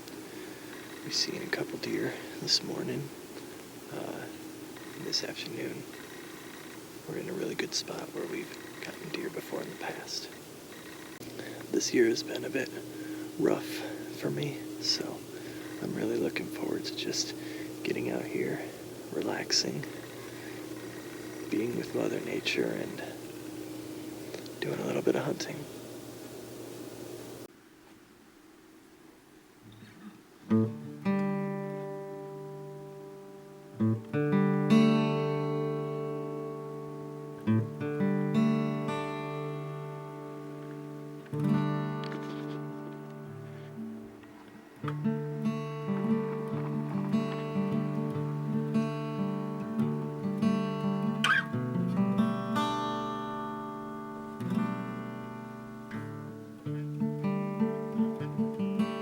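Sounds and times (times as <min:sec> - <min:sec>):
strummed acoustic guitar chords: 0:00.0 - 0:25.6, 0:29.7 - 0:59.0
faint hiss: 0:00.0 - 0:59.0.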